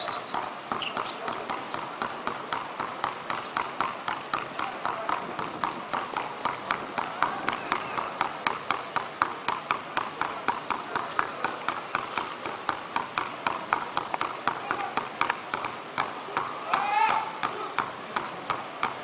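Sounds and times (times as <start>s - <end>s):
basketball dribbling on hard court: 0.0s - 19.0s.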